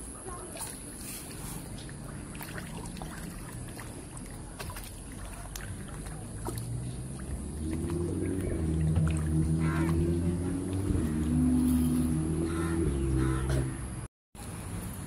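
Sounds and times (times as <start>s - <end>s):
fish thrashing in water: 0.2s - 12.4s
low engine hum: 0.5s - 15.0s.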